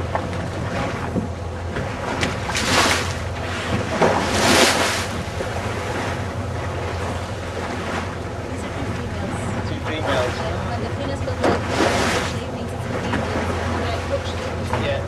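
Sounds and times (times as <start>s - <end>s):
boat engine drone: 0.0s - 15.0s
rushing water: 0.0s - 15.0s.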